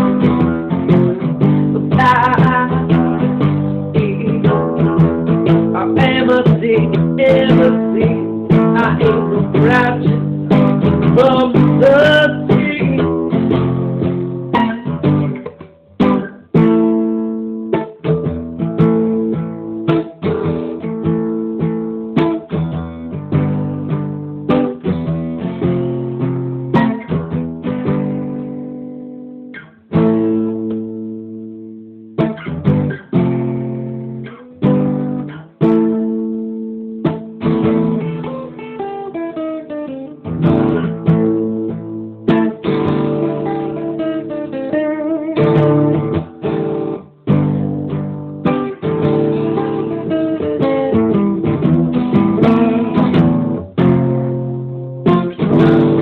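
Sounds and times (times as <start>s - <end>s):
acoustic guitar reggae playing: 0.0s - 56.0s.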